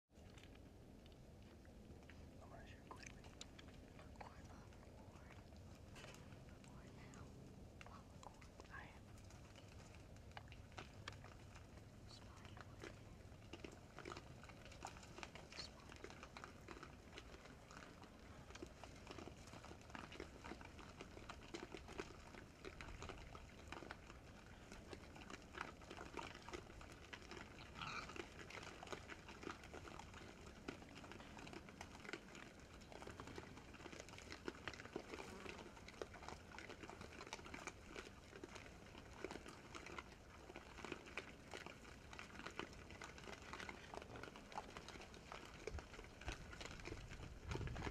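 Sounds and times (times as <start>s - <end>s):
hogs feeding crunches: 0.1s - 47.9s.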